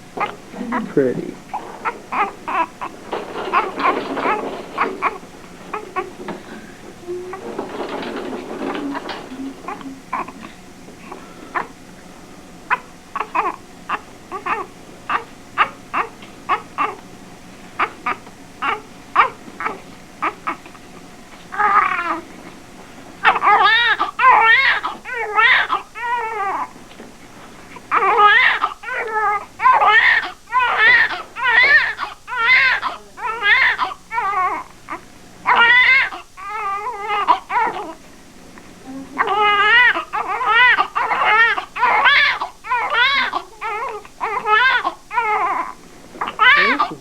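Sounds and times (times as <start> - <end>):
baby crying: 1.5 - 10.6, 12.7 - 17.0, 17.8 - 20.7, 21.5 - 22.3, 23.2 - 26.8, 27.8 - 38.0, 39.0 - 47.0.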